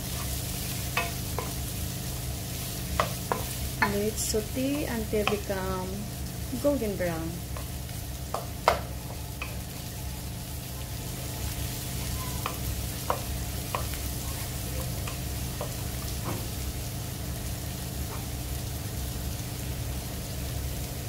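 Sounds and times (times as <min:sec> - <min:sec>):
steady low hum: 0:00.0 - 0:21.0
vegetables sizzling in a wok: 0:00.0 - 0:21.0.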